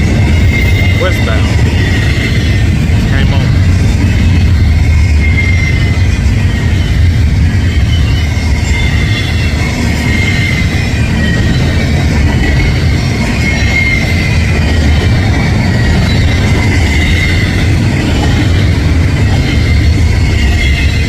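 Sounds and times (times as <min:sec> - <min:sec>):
train wheels rumbling on rail: 0:00.0 - 0:21.0
wheels squealing: 0:00.0 - 0:21.0.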